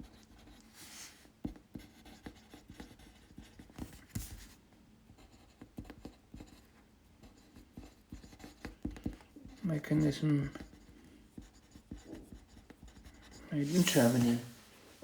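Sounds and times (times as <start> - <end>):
pencil writing on paper: 0.0 - 14.4.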